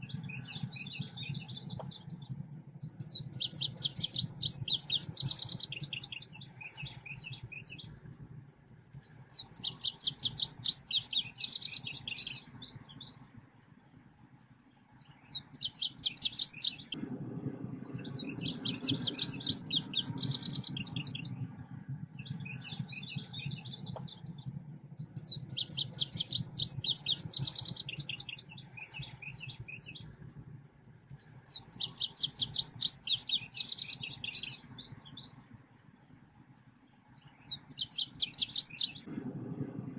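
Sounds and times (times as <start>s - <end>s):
bird chirping trills: 0.0s - 8.2s, 8.9s - 14.0s, 14.6s - 30.5s, 31.1s - 39.9s
low hum: 0.0s - 39.9s.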